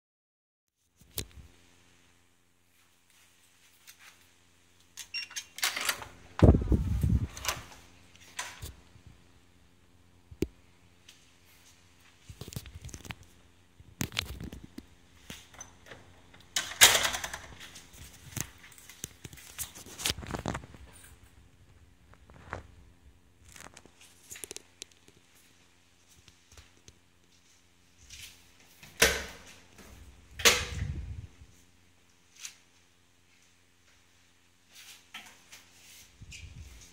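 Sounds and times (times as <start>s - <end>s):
faint steady hum: 0.8s - 36.9s.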